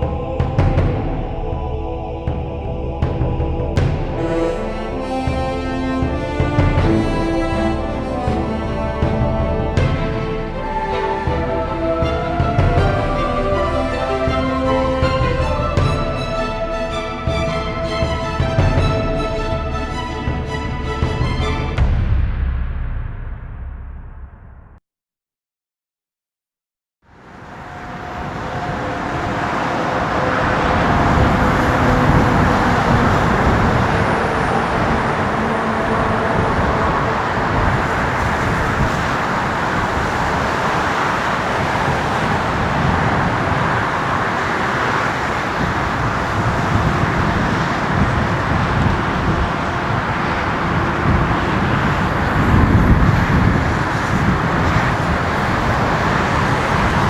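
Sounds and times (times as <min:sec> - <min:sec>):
jet engines rumbling: 0:00.0 - 0:22.0, 0:27.1 - 0:57.0.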